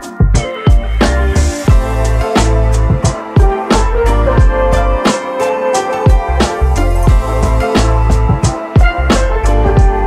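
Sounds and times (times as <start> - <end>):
drums and bass music: 0.0 - 10.0.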